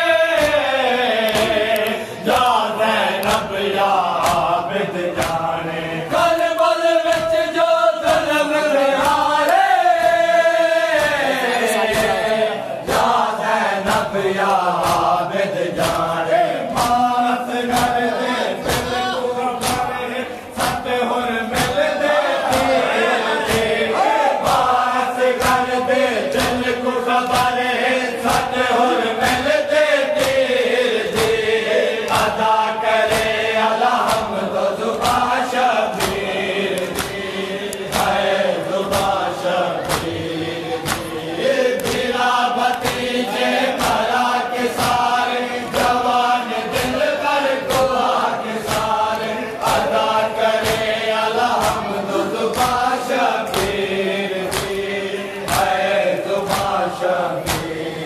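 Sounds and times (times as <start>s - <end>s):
men chanting a lament: 0.0s - 58.0s
rhythmic chest-beating: 0.0s - 58.0s.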